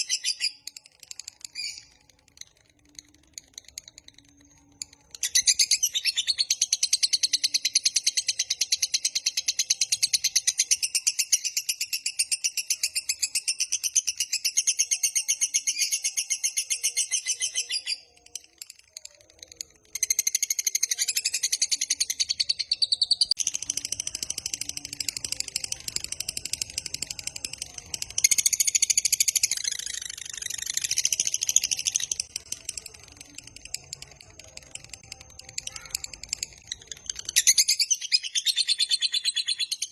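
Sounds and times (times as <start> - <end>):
lovebird high-pitched chatter: 0.0 - 39.9.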